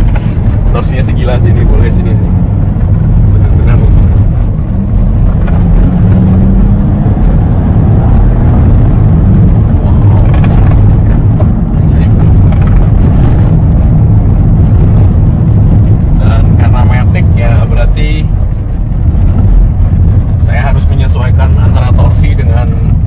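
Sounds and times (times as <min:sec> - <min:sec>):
car engine drone: 0:00.0 - 0:23.0
road noise inside car: 0:00.0 - 0:23.0.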